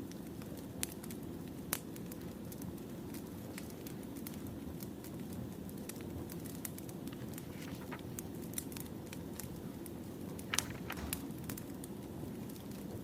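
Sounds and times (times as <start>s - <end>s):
wood fire crackling and popping: 0.1s - 13.0s.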